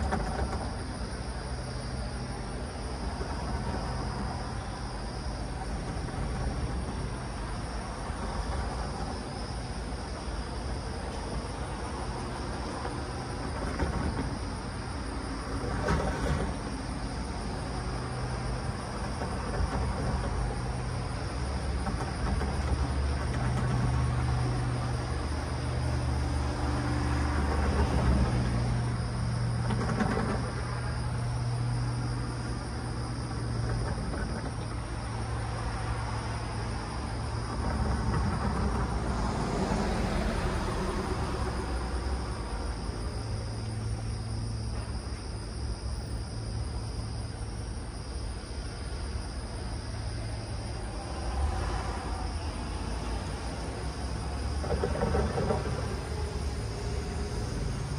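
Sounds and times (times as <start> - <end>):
low engine hum: 0.0 - 57.9
vehicles passing: 0.0 - 57.9.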